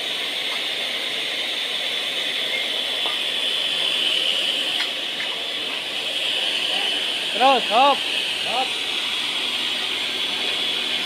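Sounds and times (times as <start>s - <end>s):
miter saw whirring: 0.0s - 11.0s.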